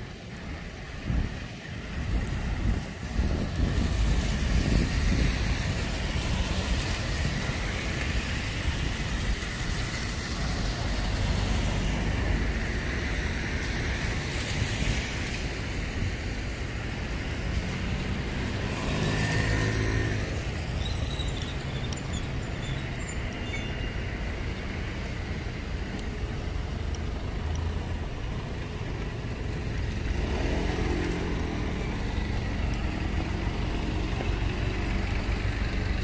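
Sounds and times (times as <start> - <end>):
traffic rumble: 0.0 - 36.0
tyres hissing on wet road: 0.0 - 36.0
vehicle engine running nearby: 0.0 - 36.0.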